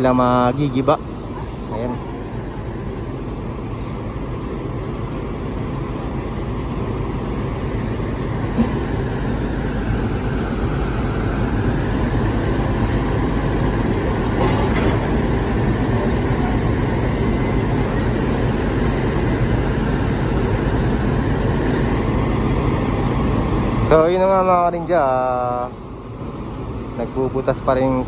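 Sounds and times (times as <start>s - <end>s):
heavy engines rumbling: 0.0s - 28.0s.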